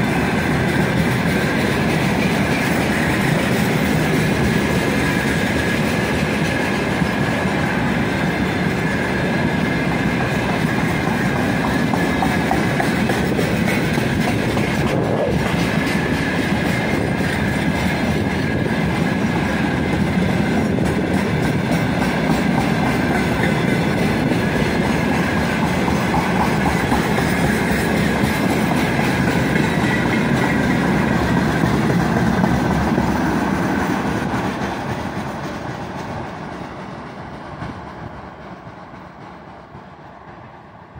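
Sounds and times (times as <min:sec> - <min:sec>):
train wheels clacking on rails: 0:00.0 - 0:40.9.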